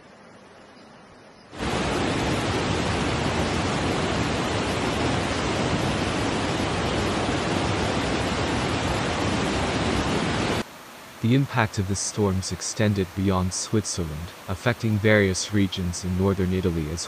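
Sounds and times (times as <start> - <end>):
floodwater rushing: 1.6 - 17.0.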